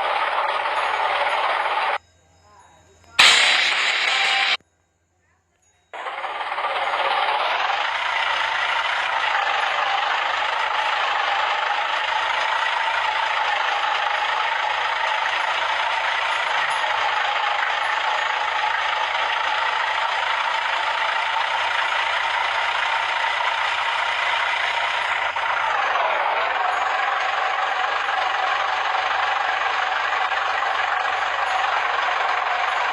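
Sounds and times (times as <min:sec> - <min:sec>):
construction machinery droning: 0:00.0 - 0:02.0, 0:02.8 - 0:04.6, 0:06.0 - 0:32.9.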